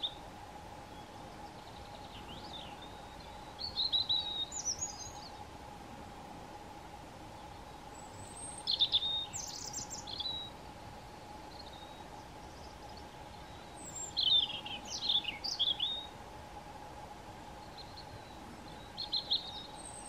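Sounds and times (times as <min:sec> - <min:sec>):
robin singing: 0:00.0 - 0:05.5, 0:07.3 - 0:16.2, 0:17.5 - 0:20.0
faint steady hum: 0:00.0 - 0:20.0.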